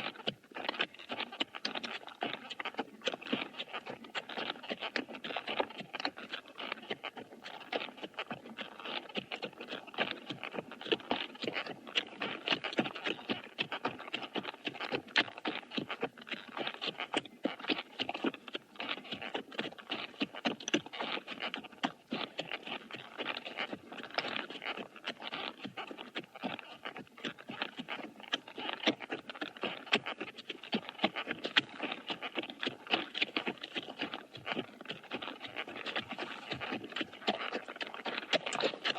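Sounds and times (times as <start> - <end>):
horse hooves walking: 0.0 - 38.9.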